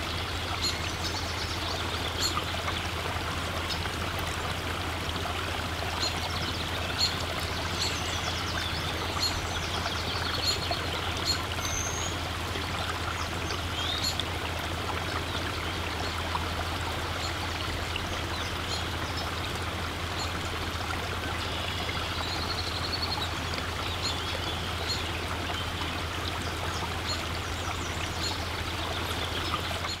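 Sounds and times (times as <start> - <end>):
stream running: 0.0 - 30.0.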